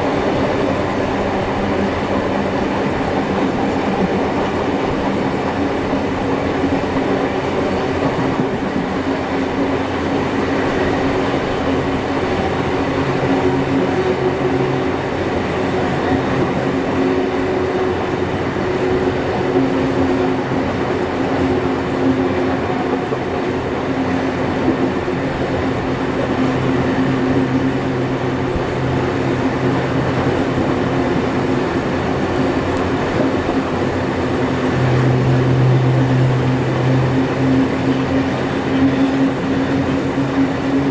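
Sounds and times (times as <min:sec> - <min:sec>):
wheels rumbling on rails: 0:00.0 - 0:40.9.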